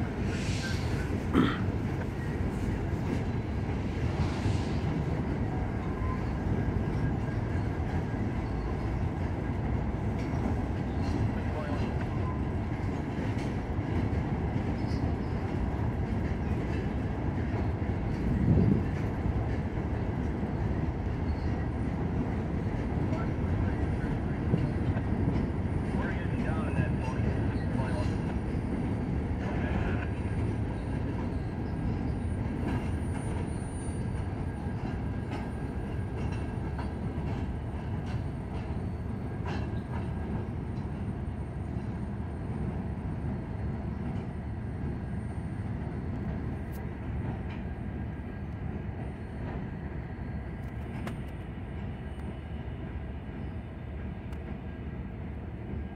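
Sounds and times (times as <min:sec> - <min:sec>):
freight train rumbling over bridge: 0:00.0 - 0:55.9.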